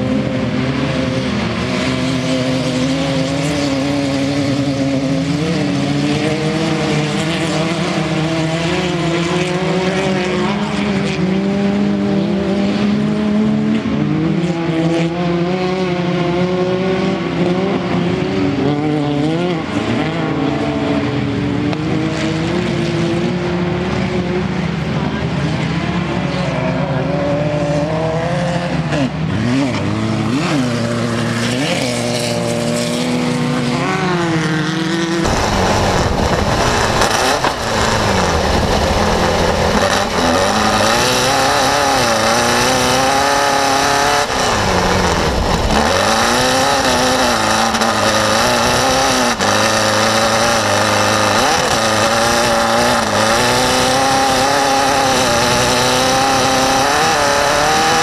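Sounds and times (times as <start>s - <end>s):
buggy engine revving: 0.0s - 58.0s
wind: 0.0s - 58.0s.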